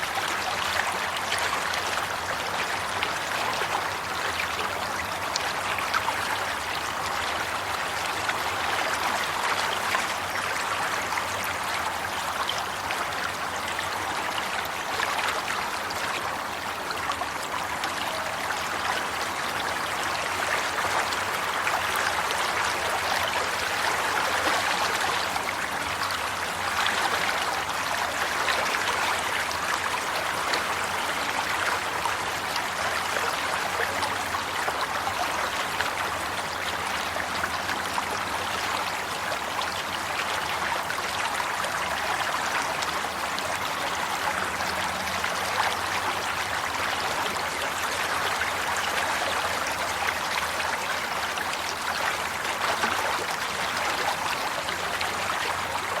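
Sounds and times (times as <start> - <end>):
stream water rushing and gurgling: 0.0 - 56.0.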